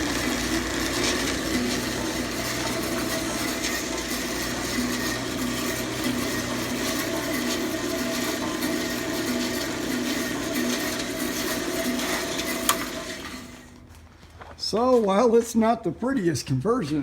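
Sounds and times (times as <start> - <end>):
band saw humming and whirring: 0.0 - 13.8.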